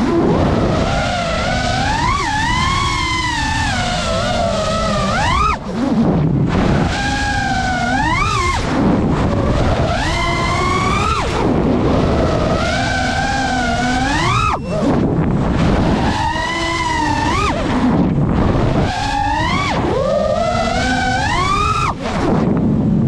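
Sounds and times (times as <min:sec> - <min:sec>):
drone motors whining: 0:00.0 - 0:23.0
wind and prop wash rumble: 0:00.0 - 0:23.0.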